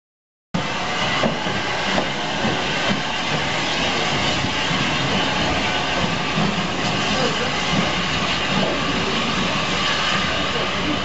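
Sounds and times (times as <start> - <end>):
steam hissing: 0.6 - 11.0
steam locomotive beats: 0.6 - 11.0.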